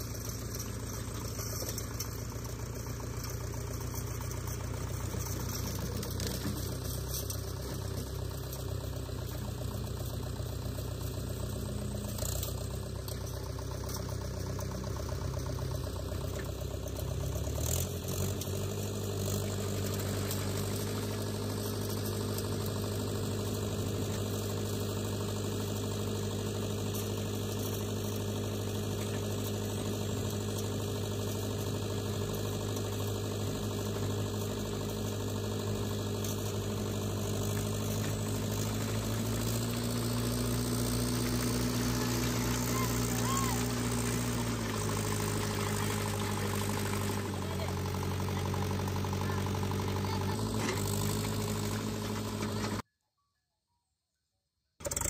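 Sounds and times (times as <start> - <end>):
backhoe loader engine running: 0.0 - 52.8
tractor diesel engine: 0.0 - 52.8.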